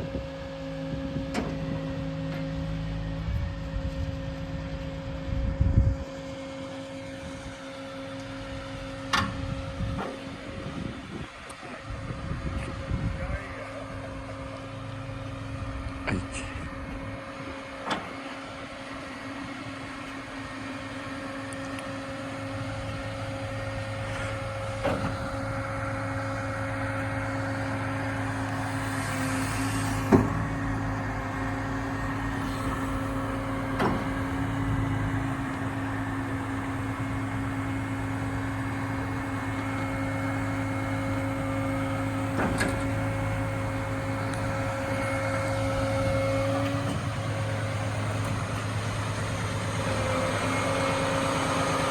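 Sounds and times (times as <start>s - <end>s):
hydraulic crane whine: 0.0s - 51.9s
truck engine drone: 0.0s - 51.9s.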